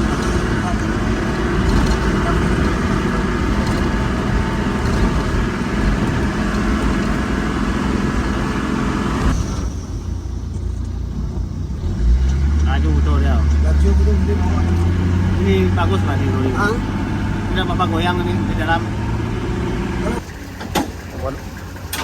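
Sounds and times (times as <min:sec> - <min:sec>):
car engine running: 0:00.0 - 0:22.0
road and tyre noise: 0:00.0 - 0:22.0.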